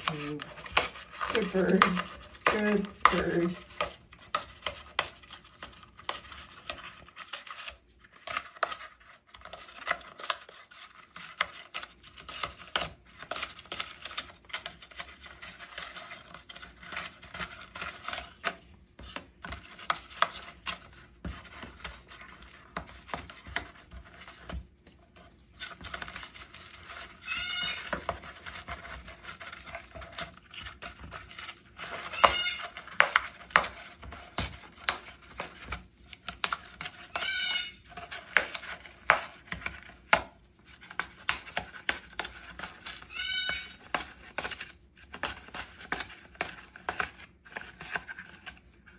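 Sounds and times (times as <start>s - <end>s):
bird beak crunching dry material: 0.0s - 48.9s.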